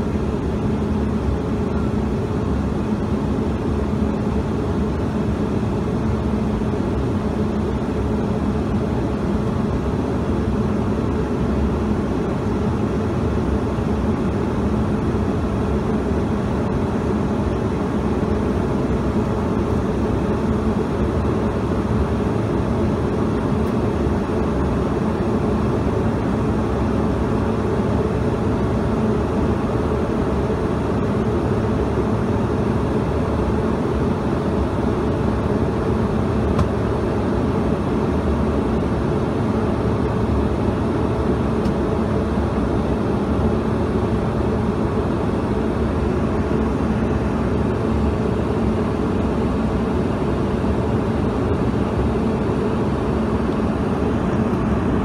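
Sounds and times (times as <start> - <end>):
jet cabin noise in flight: 0.0 - 55.0.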